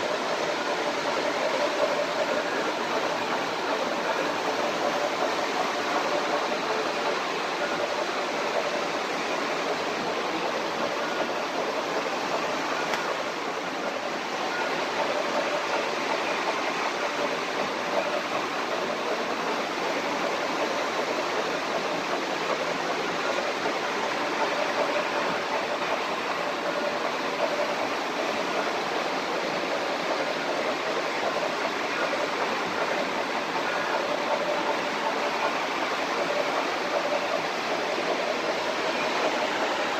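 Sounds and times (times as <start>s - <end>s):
model trains rumbling on track: 0.0s - 39.9s.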